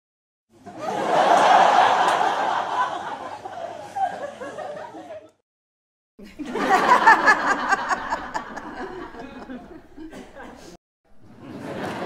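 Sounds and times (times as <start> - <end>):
crowd laughter: 0.6 - 5.4, 6.2 - 12.0.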